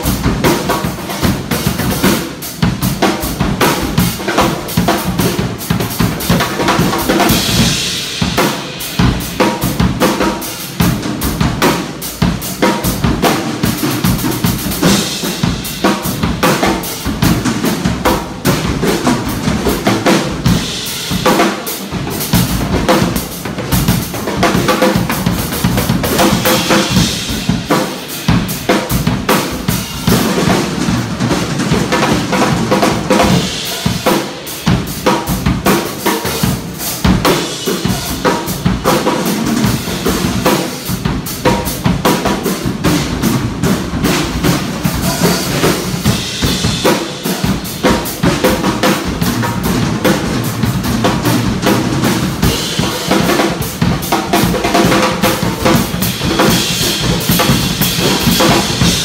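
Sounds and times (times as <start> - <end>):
drum kit played fast: 0.0 - 59.0.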